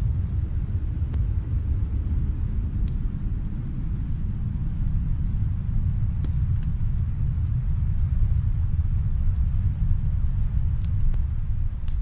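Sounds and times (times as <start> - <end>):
fireplace fire crackling: 0.0 - 12.0.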